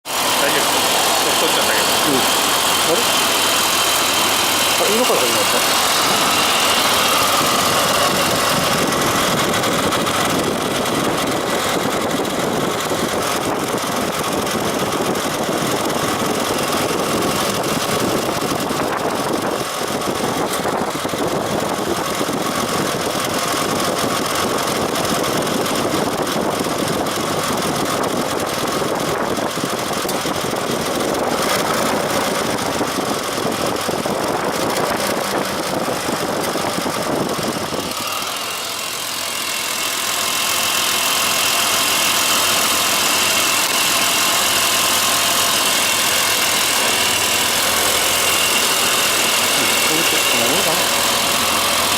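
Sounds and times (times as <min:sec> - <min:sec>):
car engine idling: 0:00.0 - 0:51.9
compressor noise: 0:00.0 - 0:51.9.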